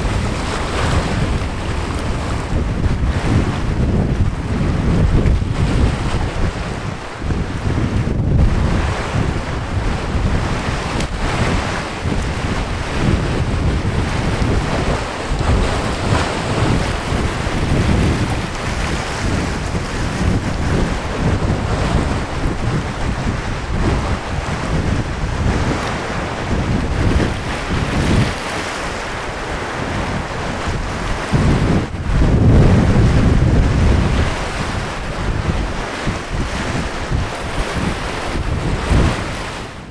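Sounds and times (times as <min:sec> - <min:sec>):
sea waves washing on shore: 0:00.0 - 0:39.9
wind buffeting microphone: 0:00.0 - 0:39.9.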